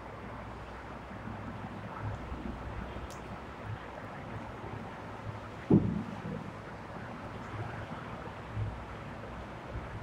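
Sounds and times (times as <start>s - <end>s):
faint background noise: 0.0s - 10.0s.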